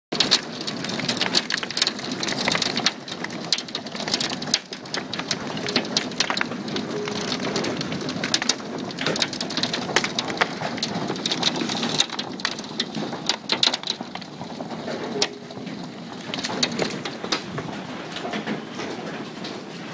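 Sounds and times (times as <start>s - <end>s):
hail pelting a wooden deck: 0.1s - 19.9s.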